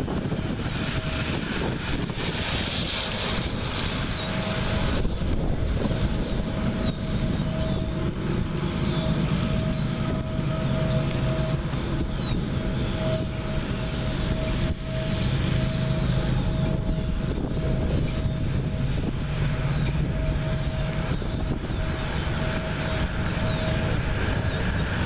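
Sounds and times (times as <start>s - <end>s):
diesel locomotive rumble: 0.0s - 25.0s
wind noise on microphone: 0.0s - 25.0s.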